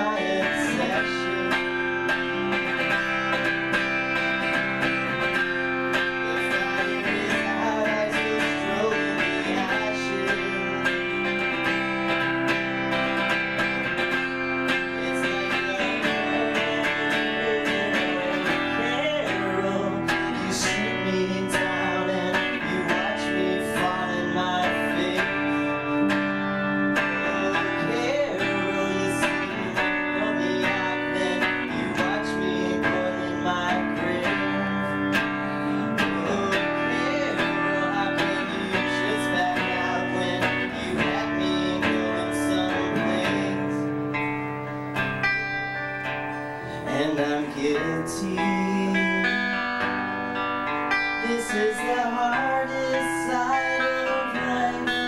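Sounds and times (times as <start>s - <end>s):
live rock band with strummed guitars: 0.0s - 55.0s.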